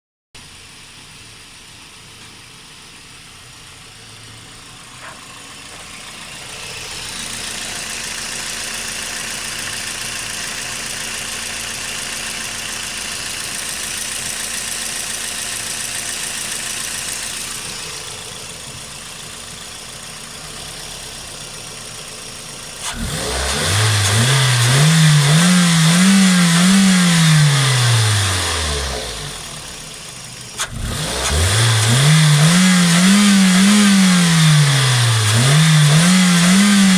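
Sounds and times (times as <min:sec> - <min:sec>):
car engine running and revving: 0:03.7 - 0:36.9.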